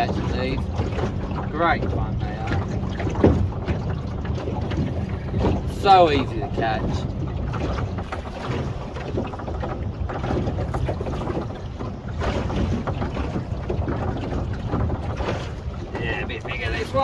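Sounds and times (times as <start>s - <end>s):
water against hull: 0.0s - 17.0s
wind buffeting microphone: 0.0s - 17.0s.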